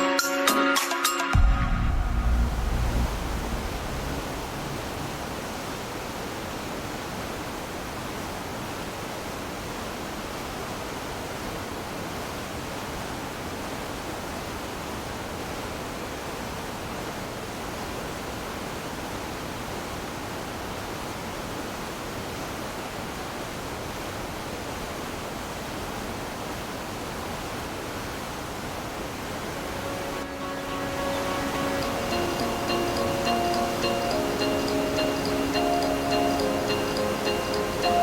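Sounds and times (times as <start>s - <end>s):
waterfall rushing: 1.4s - 38.0s.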